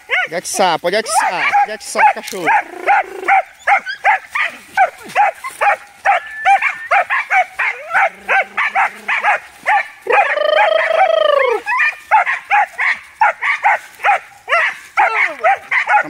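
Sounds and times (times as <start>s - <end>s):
dogs barking rapidly: 0.0s - 16.0s
dog baying: 1.0s - 16.0s.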